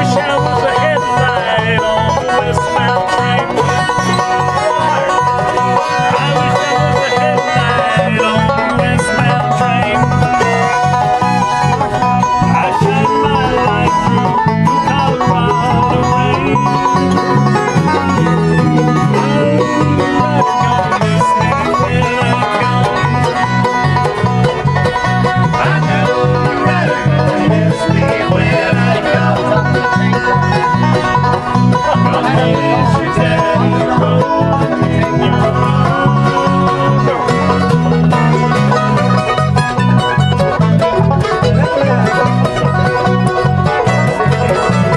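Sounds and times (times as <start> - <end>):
banjo picking: 0.0 - 44.9
bluegrass music: 0.0 - 44.9.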